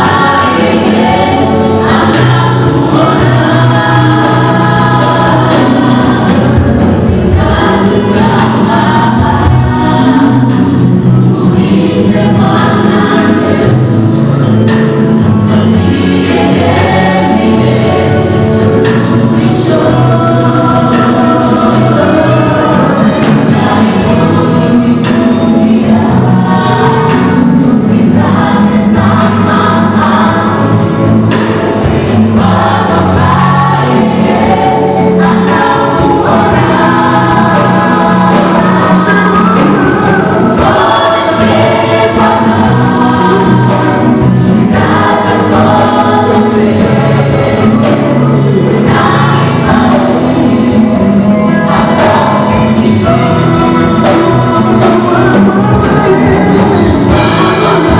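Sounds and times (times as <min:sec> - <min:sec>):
choir singing gospel: 0:00.0 - 0:57.9.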